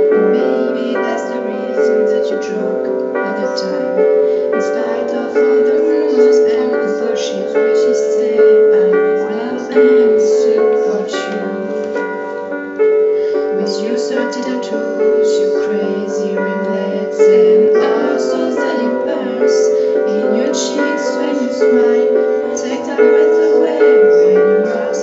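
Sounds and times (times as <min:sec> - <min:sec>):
women singing pop ballad: 0:00.0 - 0:12.0, 0:13.2 - 0:25.0
piano: 0:00.0 - 0:25.0.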